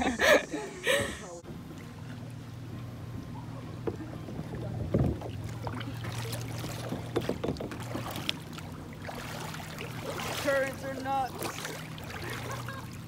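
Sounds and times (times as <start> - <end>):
water splashing around kayak: 1.5 - 13.0.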